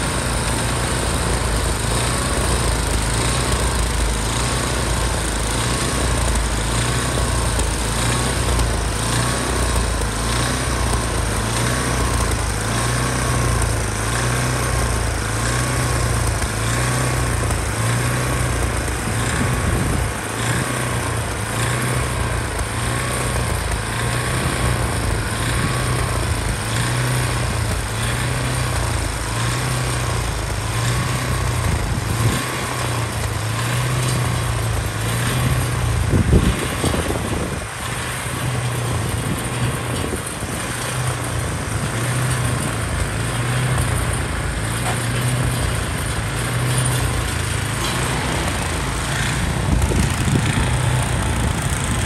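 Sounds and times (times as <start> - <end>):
snowblower engines droning: 0.0 - 52.0.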